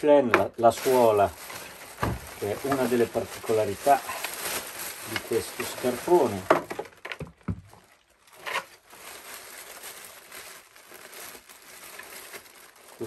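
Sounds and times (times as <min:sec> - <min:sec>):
plastic bag crinkling: 0:00.5 - 0:13.0.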